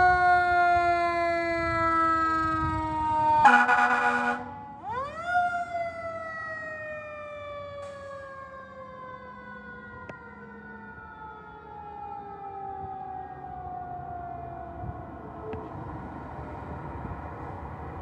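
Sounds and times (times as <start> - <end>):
mechanical siren wailing: 0.0 - 17.2.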